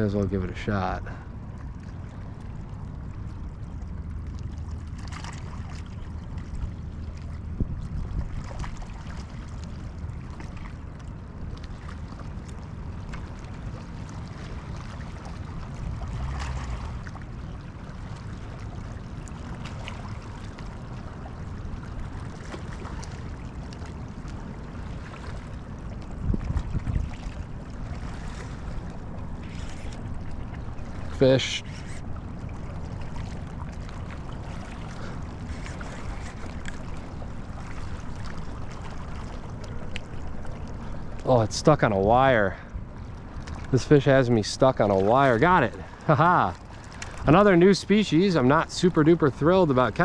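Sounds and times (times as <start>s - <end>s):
water lapping: 0.0s - 50.0s
wind rumbling on microphone: 0.0s - 50.0s.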